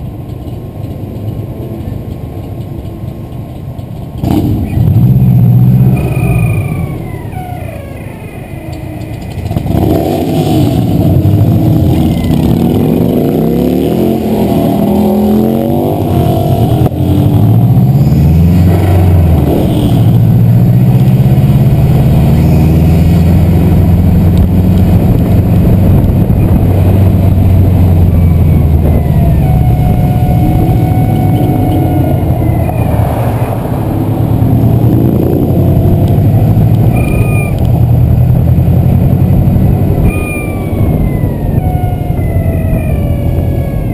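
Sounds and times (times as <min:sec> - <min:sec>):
turbo car engine accelerating: 0:04.2 - 0:43.9.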